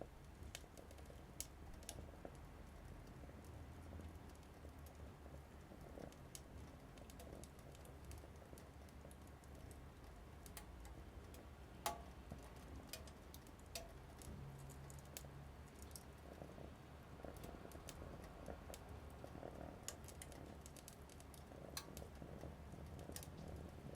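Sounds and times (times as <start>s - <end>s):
wood fire crackling: 0.0s - 23.9s.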